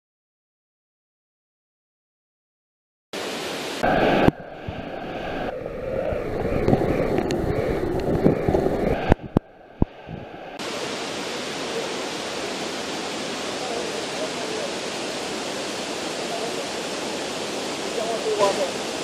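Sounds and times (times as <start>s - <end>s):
river water rushing: 3.2s - 19.0s
muffled underwater river sound: 3.6s - 19.0s.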